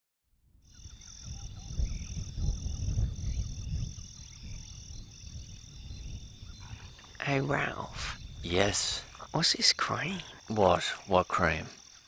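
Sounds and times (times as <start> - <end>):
insect chorus: 0.5 - 12.0
frogs croaking: 0.6 - 12.0.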